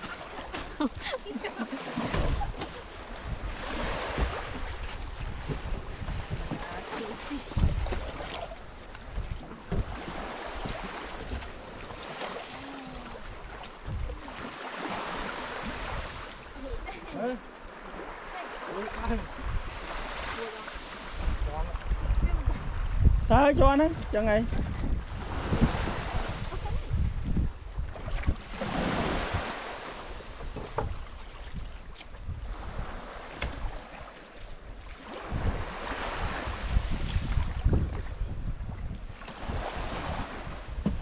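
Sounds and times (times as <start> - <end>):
small waves washing on sand: 0.0 - 41.0
wind rumbling on microphone: 2.0 - 11.9, 12.6 - 17.1, 19.0 - 33.8, 34.5 - 41.0.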